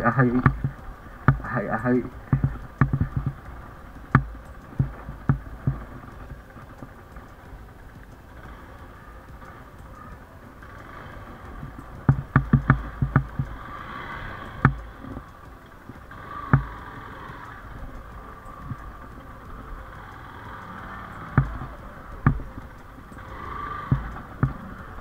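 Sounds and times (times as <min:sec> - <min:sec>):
motorcycle knocking over rocks: 0:00.0 - 0:07.6, 0:10.8 - 0:19.2, 0:20.0 - 0:25.0
motorcycle engine running low: 0:00.0 - 0:25.0.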